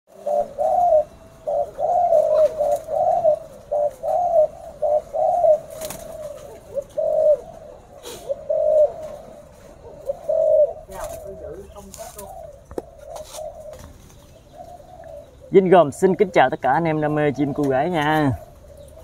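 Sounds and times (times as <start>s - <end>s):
doves cooing: 0.1s - 19.0s.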